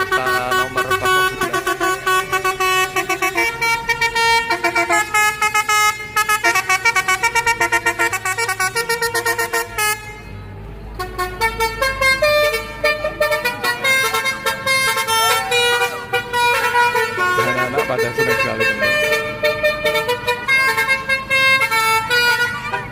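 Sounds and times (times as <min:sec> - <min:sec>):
low engine rumble: 0:00.0 - 0:22.9
truck multi-tone horn tune: 0:00.0 - 0:22.9.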